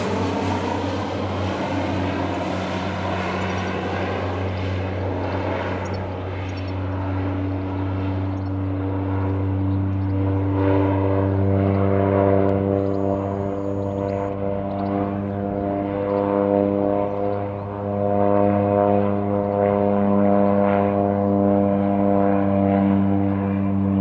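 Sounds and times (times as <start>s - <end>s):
propeller plane flying overhead: 0.0s - 24.0s.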